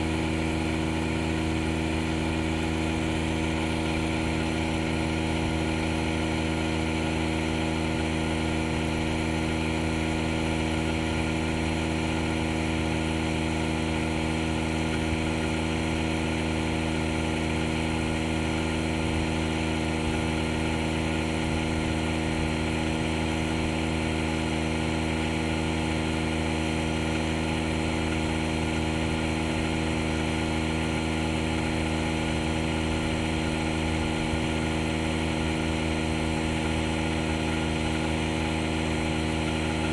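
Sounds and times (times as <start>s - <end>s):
air compressor humming and hissing: 0.0s - 39.9s.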